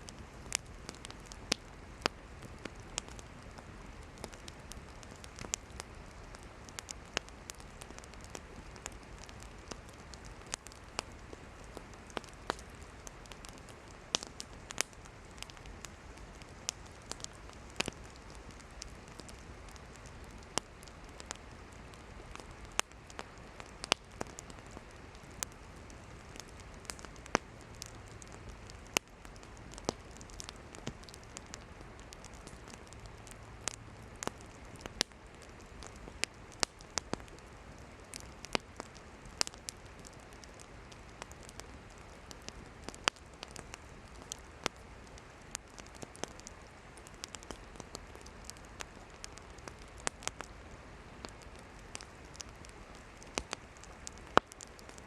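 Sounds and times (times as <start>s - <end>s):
campfire hissing: 0.0s - 55.0s
firewood crackling and popping: 0.0s - 55.0s.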